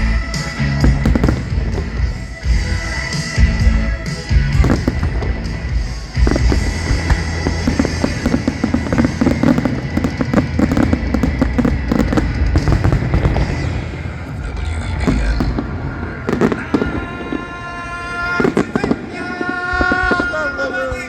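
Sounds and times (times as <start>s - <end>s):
fireworks bangs and crackles: 0.0s - 21.0s
music: 0.0s - 21.0s.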